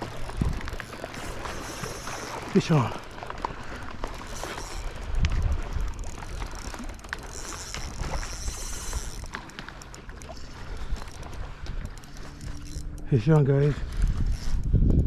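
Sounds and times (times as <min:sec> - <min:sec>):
wind buffeting microphone: 0:00.0 - 0:02.2, 0:03.4 - 0:09.4, 0:10.4 - 0:15.0
fishing reel whirring: 0:00.0 - 0:15.0.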